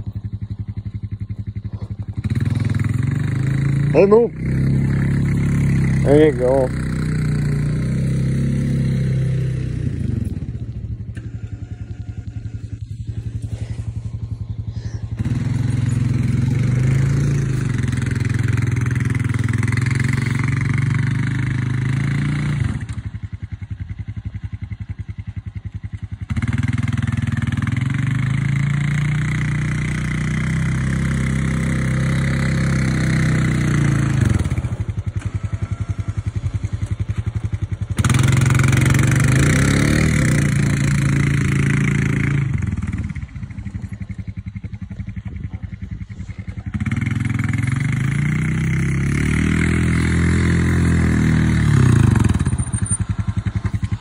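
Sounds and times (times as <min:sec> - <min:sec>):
small vehicle engine revving: 0:00.0 - 0:54.0.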